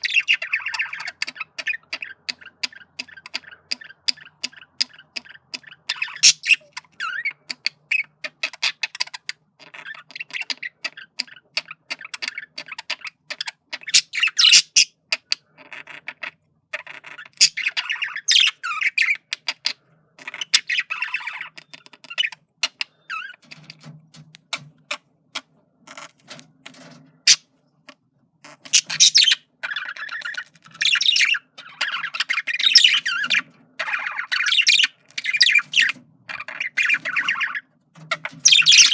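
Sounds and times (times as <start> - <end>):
budgerigar warbling and chattering: 0.0 - 23.6, 27.2 - 27.5, 28.4 - 38.9.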